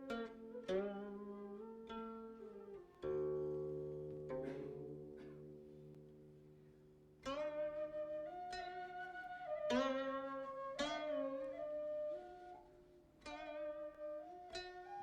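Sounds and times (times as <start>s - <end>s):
plucked zither-like instrument: 0.0s - 15.0s.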